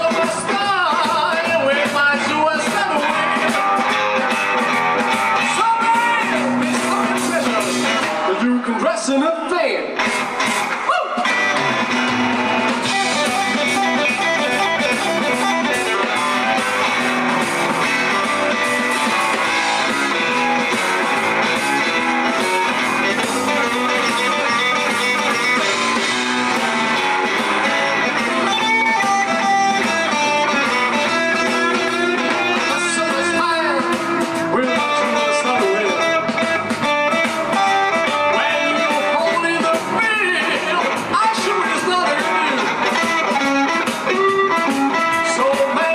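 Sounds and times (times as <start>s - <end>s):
bass and drums: 0.0s - 45.9s
electric guitar: 0.0s - 45.9s.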